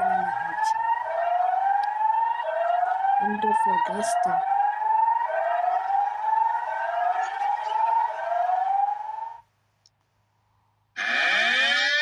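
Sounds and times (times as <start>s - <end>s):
emergency warning siren: 0.0s - 9.4s, 11.0s - 12.0s.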